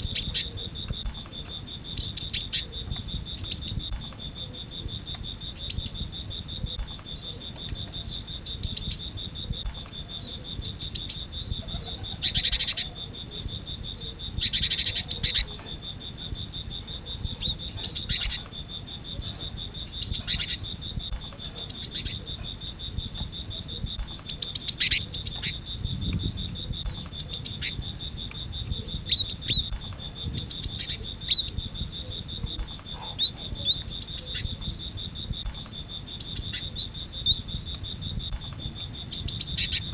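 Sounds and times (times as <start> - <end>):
harsh raspy bird calls: 0.0 - 39.9.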